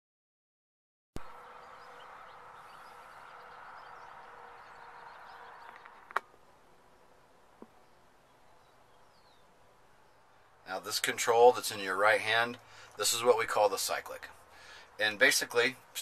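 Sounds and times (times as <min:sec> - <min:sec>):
faint outdoor hum: 0:01.2 - 0:16.0.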